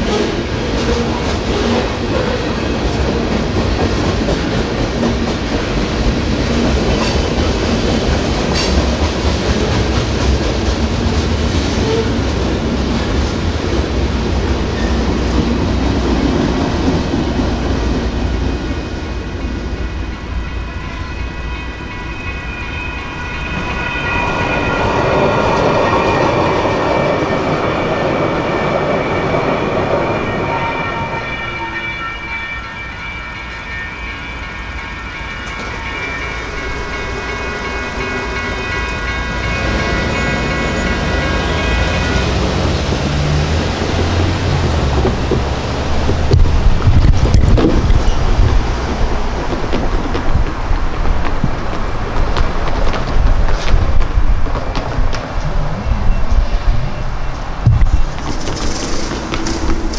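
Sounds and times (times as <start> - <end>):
freight train wheels clacking: 0.0 - 20.6, 23.0 - 59.9
light rail train passing: 0.0 - 59.9.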